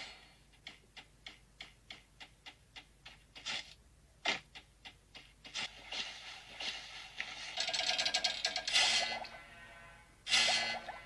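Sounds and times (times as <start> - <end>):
game running footsteps ticks: 0.0 - 9.3.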